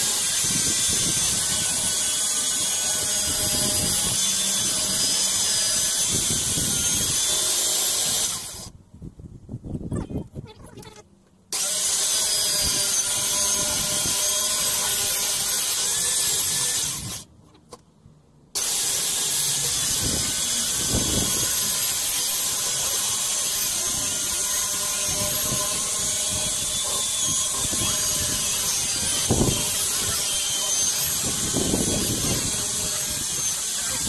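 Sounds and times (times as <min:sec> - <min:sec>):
power saw cutting board: 0:00.0 - 0:08.7, 0:11.6 - 0:17.2, 0:18.6 - 0:34.0.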